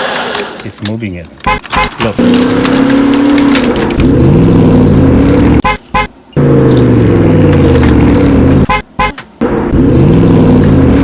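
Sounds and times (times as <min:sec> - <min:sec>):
car engine revving: 0:01.6 - 0:11.0.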